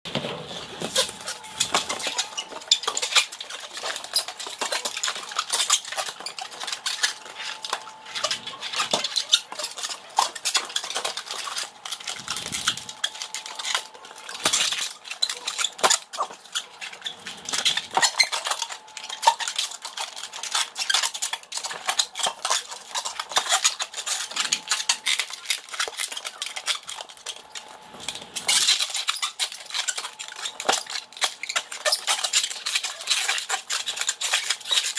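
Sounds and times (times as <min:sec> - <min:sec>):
balloon squeaking and creaking: 0:00.1 - 0:34.9.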